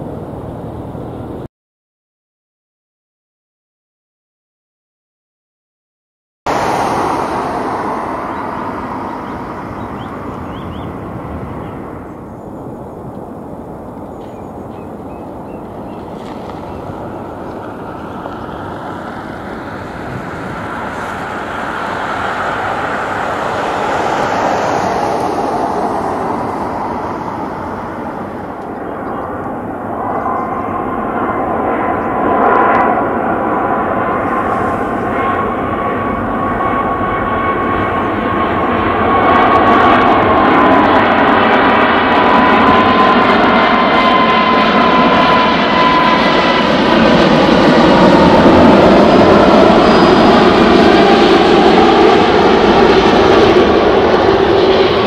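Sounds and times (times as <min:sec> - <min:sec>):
jetliner engines approaching: 0:00.0 - 0:01.5, 0:06.5 - 0:55.0
steady whine: 0:06.5 - 0:55.0.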